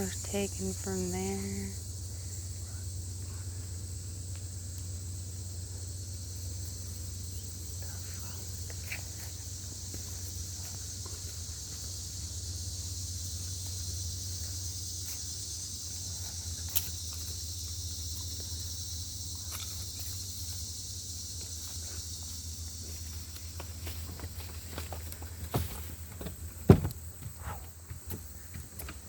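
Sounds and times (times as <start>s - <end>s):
low steady rumble: 0.0s - 25.3s
high-pitched insect chorus: 0.0s - 29.0s.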